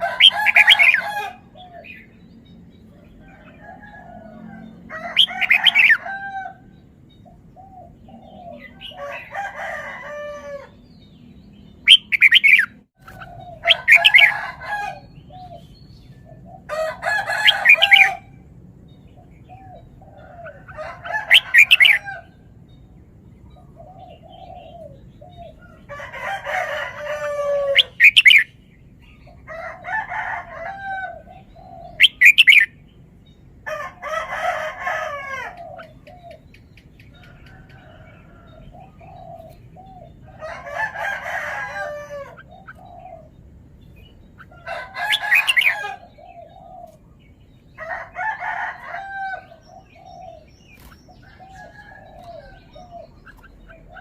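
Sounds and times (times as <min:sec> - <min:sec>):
bird singing warbled phrases: 0:00.0 - 0:54.0.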